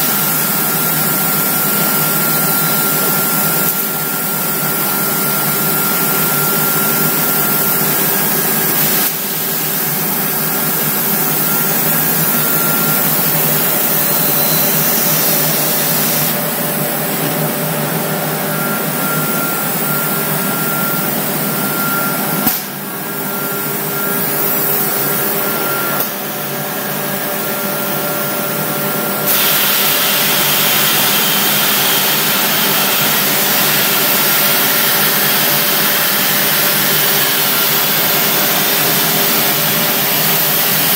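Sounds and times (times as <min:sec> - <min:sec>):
machine running with held tones: 0:00.0 - 0:40.9.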